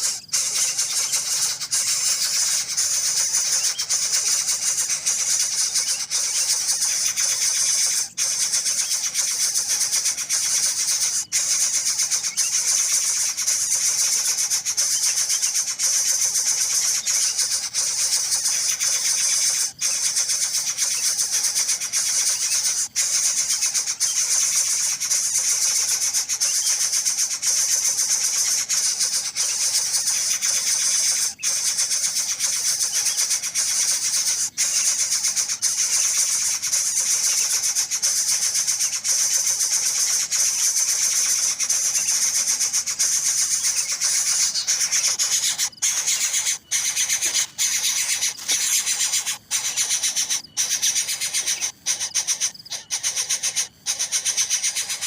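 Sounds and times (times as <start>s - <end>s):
bird chick calling: 0.0s - 55.0s.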